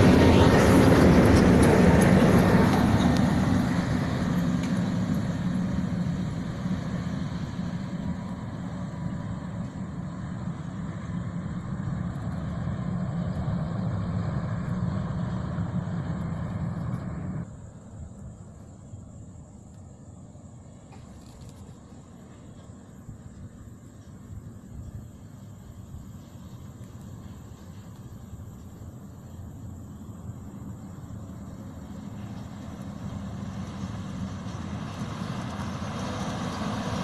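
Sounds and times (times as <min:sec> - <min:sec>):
heavy truck driving past: 0:00.0 - 0:18.0, 0:22.0 - 0:37.0.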